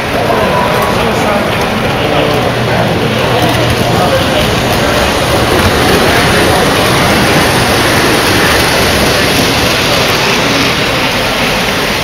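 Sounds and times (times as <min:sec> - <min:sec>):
model trains rolling rumble: 0:00.0 - 0:12.0.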